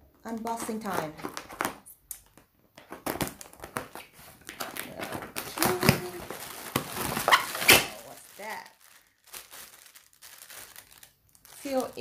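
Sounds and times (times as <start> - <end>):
packaging being torn and crinkled: 1.1 - 12.0.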